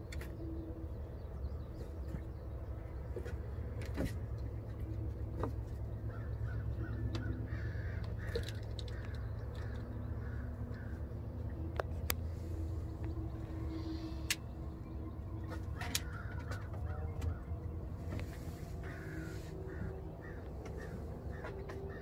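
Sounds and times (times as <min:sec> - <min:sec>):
birds calling: 0:00.0 - 0:22.0
steady low rumble: 0:00.0 - 0:22.0.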